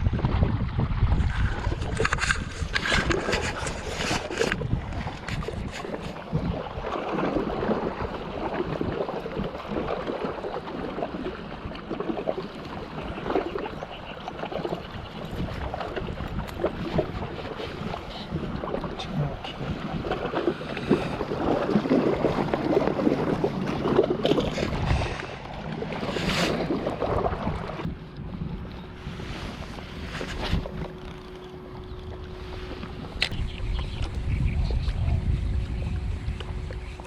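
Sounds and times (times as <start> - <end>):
moving water: 0.0 - 37.0
wind on microphone: 0.0 - 37.0.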